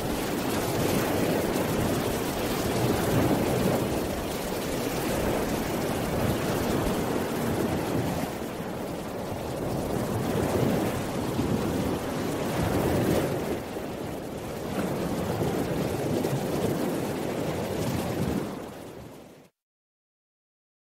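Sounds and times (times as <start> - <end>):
steady rushing noise: 0.0 - 18.9.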